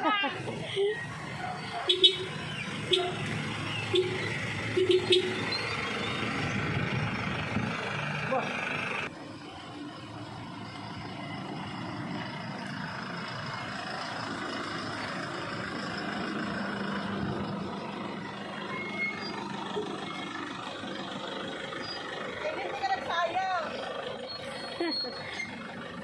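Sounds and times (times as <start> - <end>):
vehicles driving past: 0.0 - 26.0.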